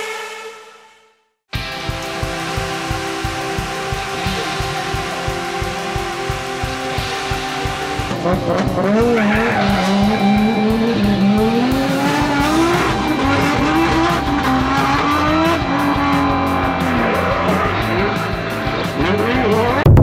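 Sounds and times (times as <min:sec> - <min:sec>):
car engine revving: 0:00.0 - 0:20.0
background music with steady beat: 0:01.5 - 0:20.0.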